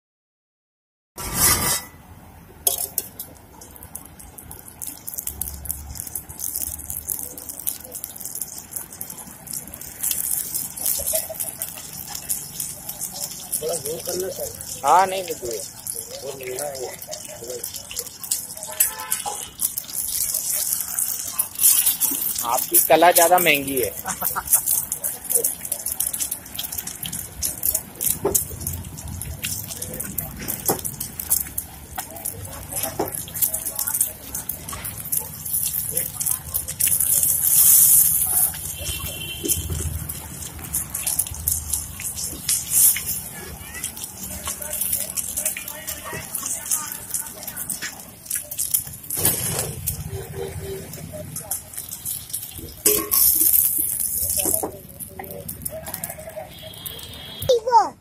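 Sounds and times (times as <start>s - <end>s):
hot oil crackling in frying pan: 1.2s - 57.9s.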